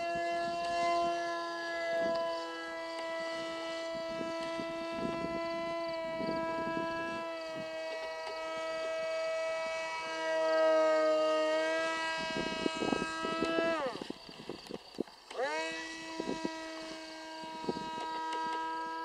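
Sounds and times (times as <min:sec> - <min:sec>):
model plane electric motor whine: 0:00.0 - 0:19.0.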